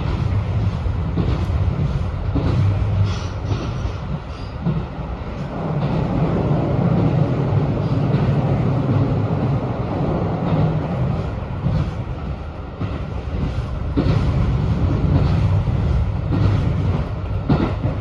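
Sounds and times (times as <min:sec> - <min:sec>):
train rumbling inside car: 0:00.0 - 0:18.0
wheels clacking on track: 0:00.0 - 0:18.0.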